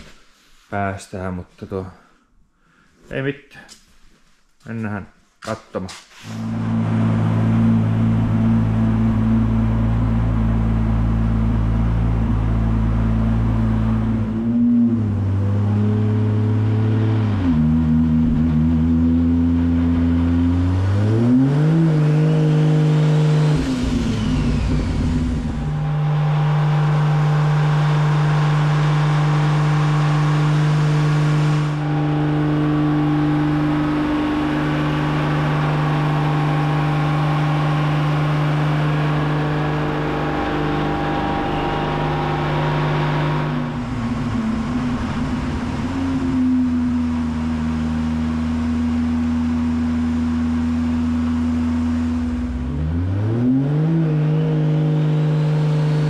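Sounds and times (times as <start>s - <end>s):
race car engine running: 6.4s - 56.0s.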